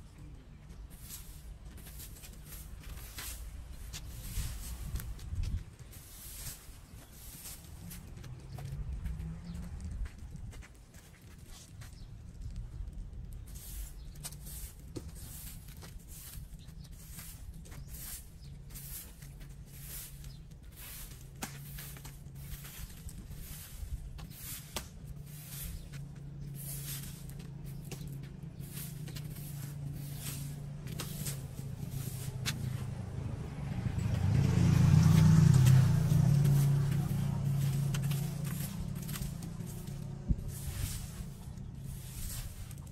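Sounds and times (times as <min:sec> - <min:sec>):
broom sweeping sand and leaves: 0:00.0 - 0:42.9.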